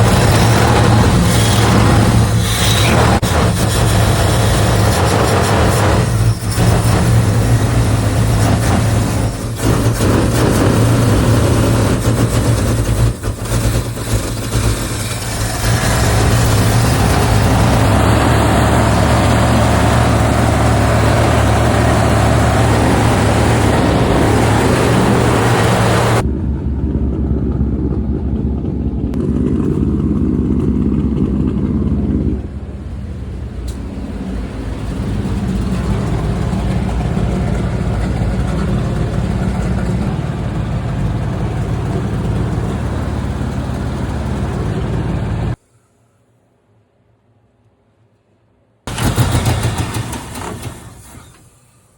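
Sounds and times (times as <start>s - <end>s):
pickup truck engine running: 0.0s - 45.6s, 48.9s - 51.6s.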